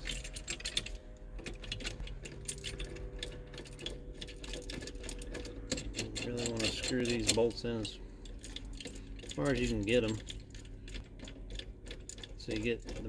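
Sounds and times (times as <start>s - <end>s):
faint steady hum: 0.0s - 13.0s
small metallic clicks: 0.0s - 13.0s.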